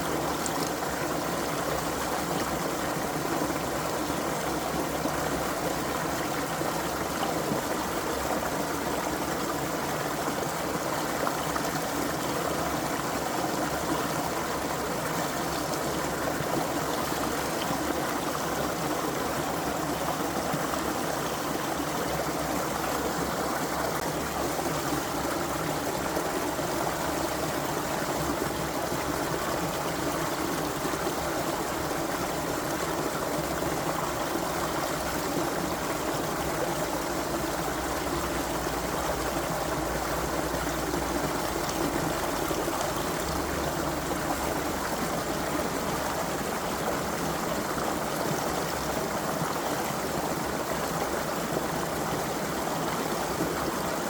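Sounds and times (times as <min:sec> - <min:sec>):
creek water flowing over stones: 0:00.0 - 0:54.0.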